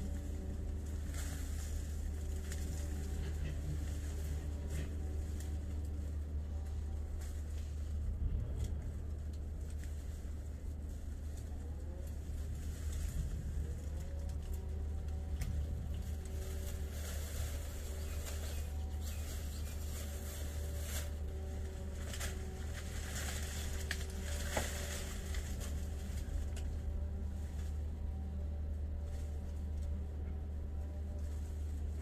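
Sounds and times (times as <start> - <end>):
plastic bag rustling: 0.0 - 29.5
leaves rustling: 0.0 - 32.0
steady low hum: 0.0 - 32.0.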